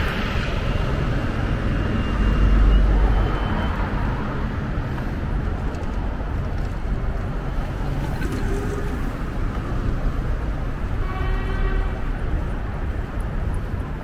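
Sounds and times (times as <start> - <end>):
outdoor noise: 0.0 - 14.0
passing traffic rumble: 0.0 - 14.0.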